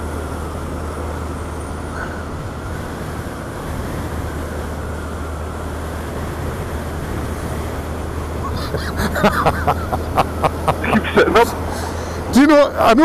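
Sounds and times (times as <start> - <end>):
motorcycle engine humming: 0.0 - 12.4
wind rush and road noise: 0.0 - 13.0.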